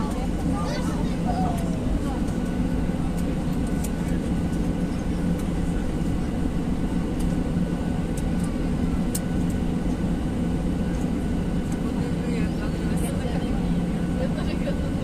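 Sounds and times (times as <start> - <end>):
airliner cabin noise: 0.0 - 15.0
low constant hum: 0.0 - 15.0.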